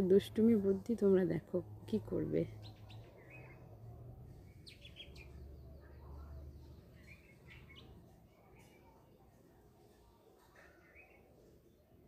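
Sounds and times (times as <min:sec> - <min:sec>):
small birds chirping: 0:00.1 - 0:12.0.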